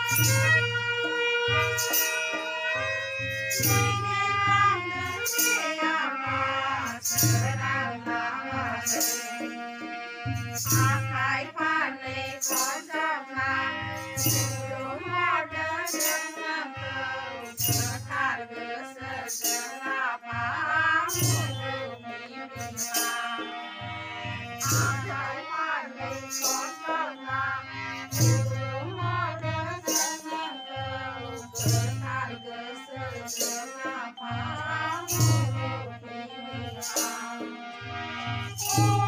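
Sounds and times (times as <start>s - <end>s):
jingling percussion: 0.0s - 39.0s
women singing a hymn: 3.7s - 39.0s.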